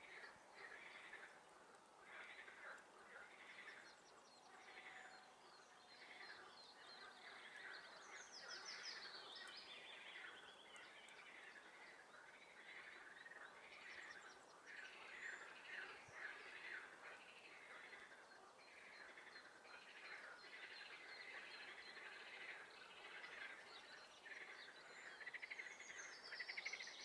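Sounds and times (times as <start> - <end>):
frogs calling faintly: 0.0 - 27.0.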